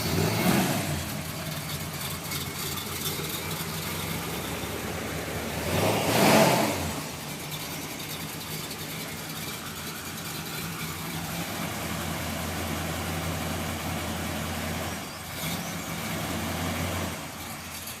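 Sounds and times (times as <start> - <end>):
engine revving: 0.0 - 17.6
car engine idling: 0.0 - 18.0.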